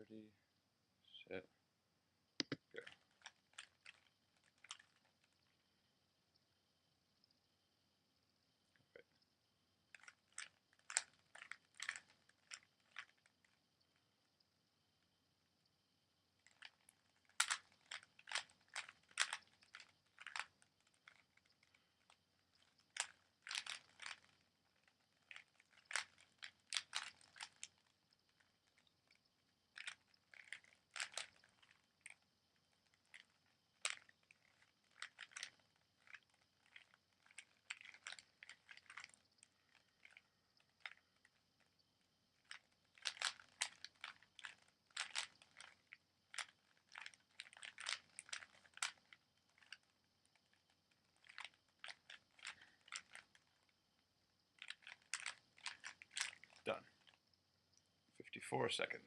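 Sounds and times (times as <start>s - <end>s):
puzzle cube plastic clicks: 2.4s - 5.5s, 9.9s - 14.0s, 16.3s - 53.7s, 54.5s - 57.2s.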